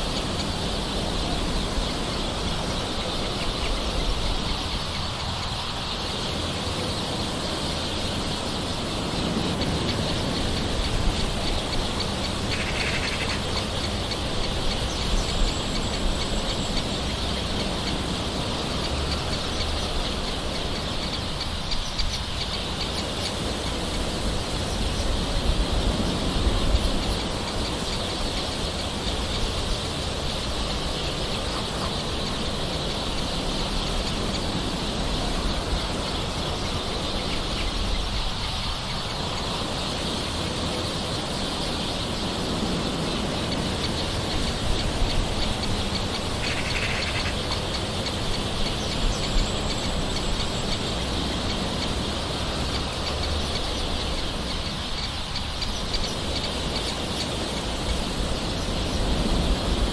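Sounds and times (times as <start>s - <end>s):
bird calls: 0.0s - 59.9s
soft rain hissing: 0.0s - 59.9s.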